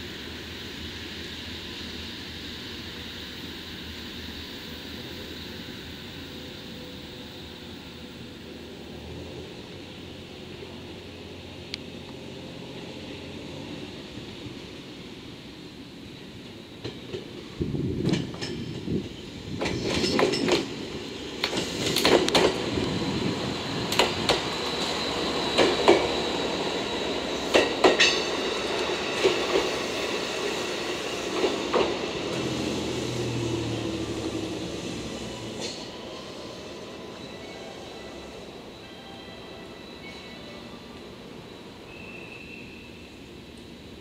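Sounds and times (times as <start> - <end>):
railcar running noise: 0.0 - 44.0.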